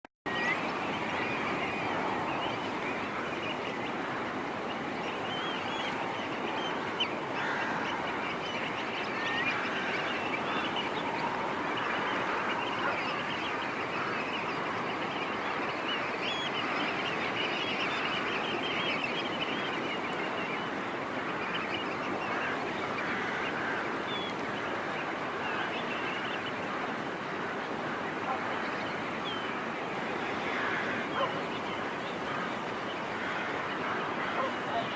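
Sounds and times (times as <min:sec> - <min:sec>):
flock of birds calling: 0:00.3 - 0:34.9.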